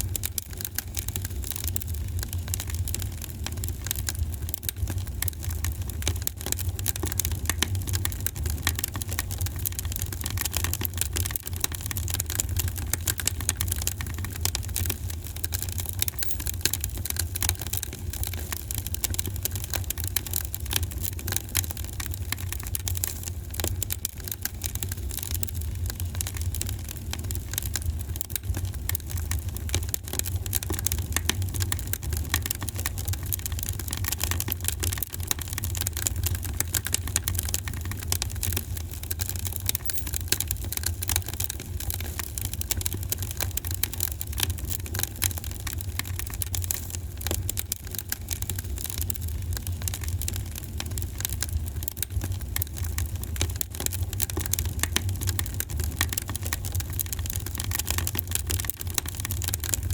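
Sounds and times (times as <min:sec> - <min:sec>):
fire crackling and popping: 0:00.0 - 0:59.9
low rumble of fire: 0:00.0 - 0:59.9.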